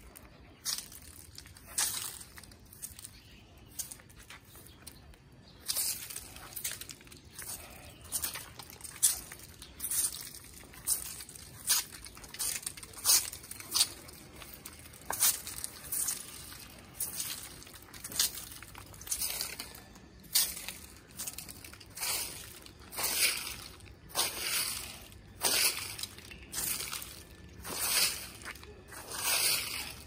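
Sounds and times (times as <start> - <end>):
footsteps in sandals on concrete: 0.0 - 30.0.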